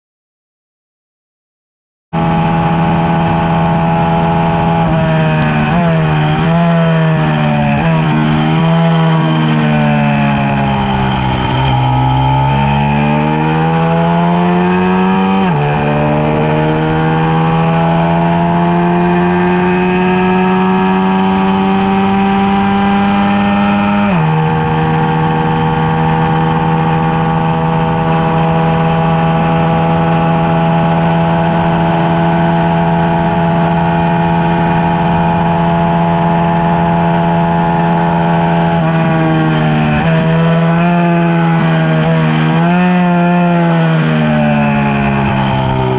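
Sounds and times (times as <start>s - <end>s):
motorcycle engine at high revs: 2.2s - 45.9s.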